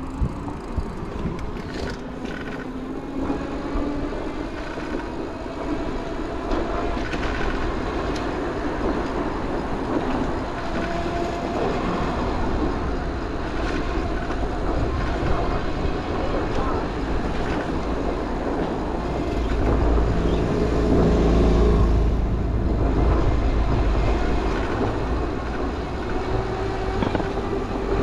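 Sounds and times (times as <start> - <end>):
streetcar rumble and hum: 0.0 - 28.0
wind rushing on microphone: 0.0 - 28.0.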